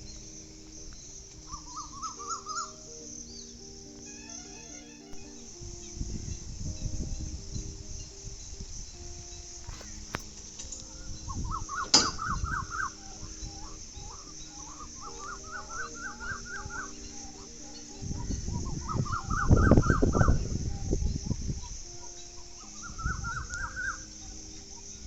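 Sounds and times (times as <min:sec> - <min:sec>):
bird chirping: 0:00.0 - 0:25.0
steady high hiss: 0:00.0 - 0:25.0.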